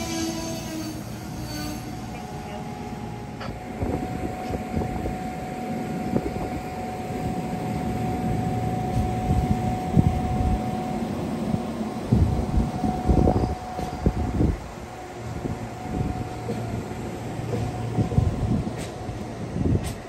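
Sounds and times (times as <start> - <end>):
steady whine: 0.0 - 20.0
train coaches rumbling: 0.0 - 20.0.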